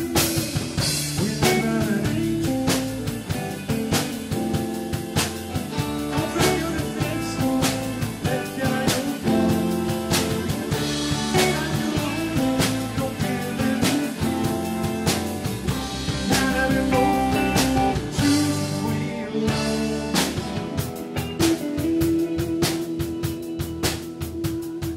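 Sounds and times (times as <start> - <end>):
drum and cymbal hits: 0.0 - 24.9
electric guitar notes: 0.0 - 24.9
live band playing blues-jazz: 0.0 - 24.9.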